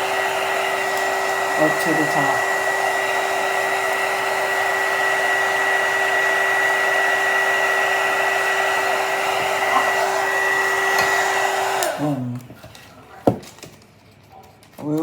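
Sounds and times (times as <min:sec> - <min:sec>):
hot-air blower rushing and whining: 0:00.0 - 0:12.6.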